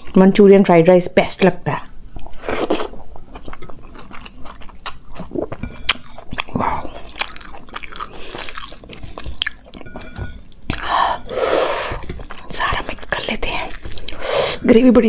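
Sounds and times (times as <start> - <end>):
person chewing food: 2.1 - 14.6.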